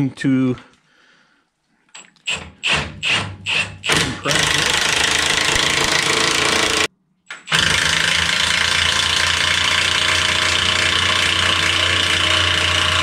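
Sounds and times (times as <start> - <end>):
impact wrench running: 2.2 - 13.0.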